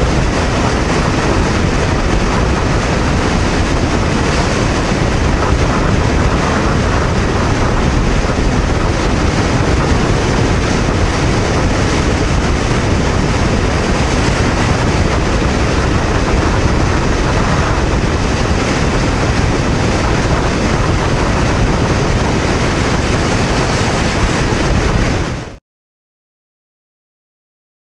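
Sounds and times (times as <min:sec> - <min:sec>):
wind and road noise: 0:00.0 - 0:25.6.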